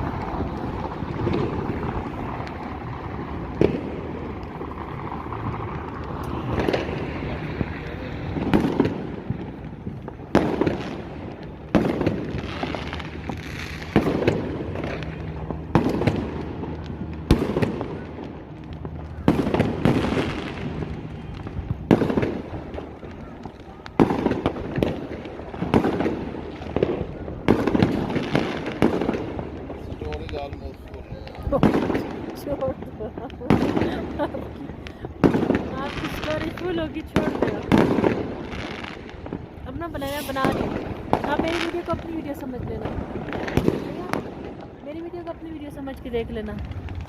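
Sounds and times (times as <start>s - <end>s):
background noise: 0.0s - 47.0s
fireworks bangs: 0.0s - 47.0s.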